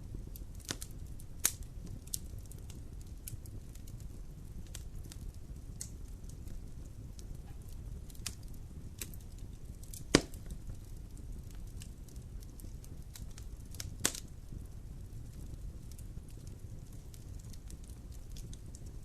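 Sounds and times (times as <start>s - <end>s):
fire crackling: 0.0s - 19.0s
fire low rumble: 0.0s - 19.0s
loud pops from fire: 0.0s - 19.0s.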